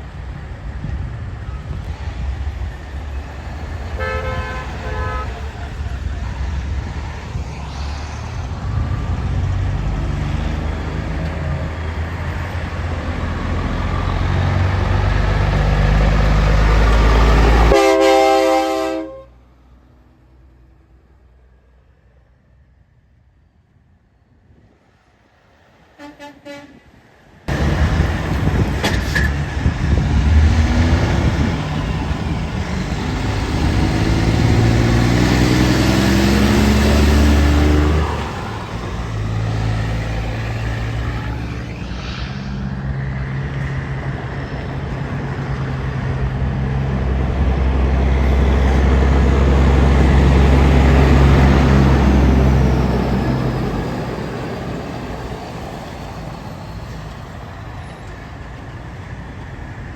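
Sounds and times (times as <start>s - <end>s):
heavy truck engines pulling away: 0.0s - 18.8s, 27.5s - 59.9s.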